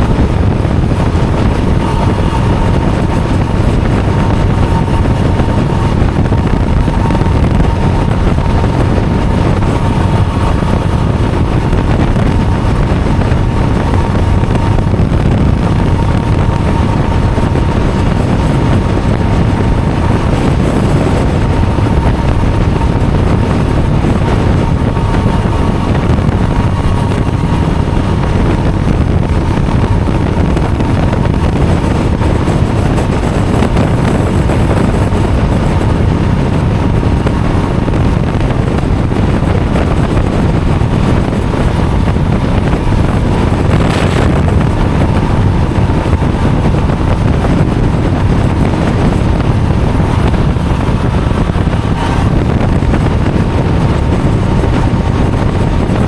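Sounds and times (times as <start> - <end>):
vehicle driving rumble: 0.0 - 56.0
wind on microphone: 0.0 - 56.0.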